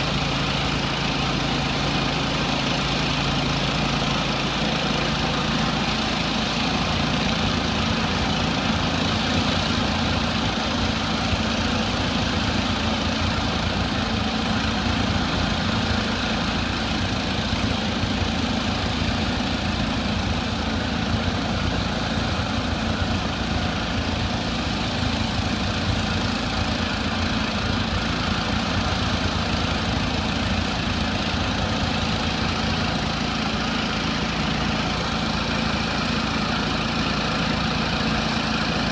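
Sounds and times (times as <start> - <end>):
pressure washer engine running: 0.0 - 38.9.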